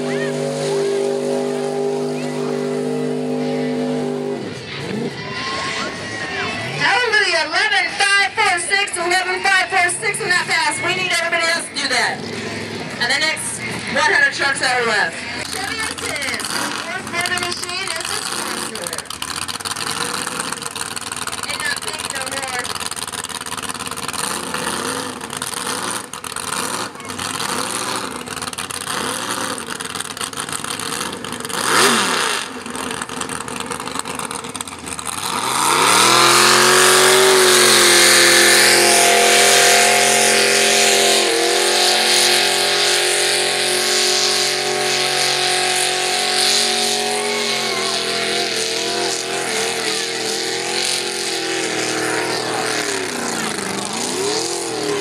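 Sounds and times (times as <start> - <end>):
tires churning mud: 0.0 - 55.0
truck engine at full throttle: 0.0 - 55.0
truck engine idling and revving: 0.0 - 55.0.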